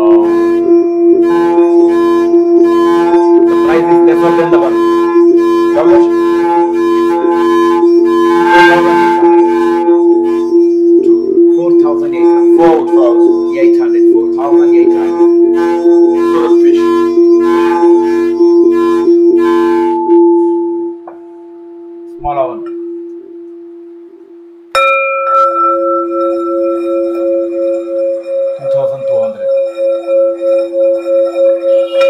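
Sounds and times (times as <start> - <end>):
small brass singing bowl ringing: 0.0 - 23.8, 24.7 - 32.0
singing bowl humming: 0.0 - 32.0.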